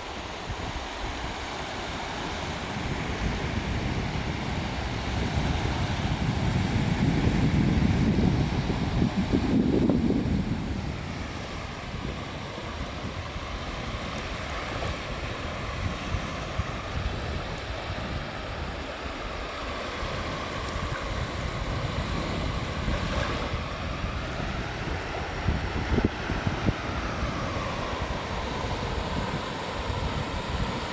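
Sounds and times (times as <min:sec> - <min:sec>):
waves breaking on a beach: 0:00.0 - 0:30.9
wind rumbling on microphone: 0:00.0 - 0:30.9.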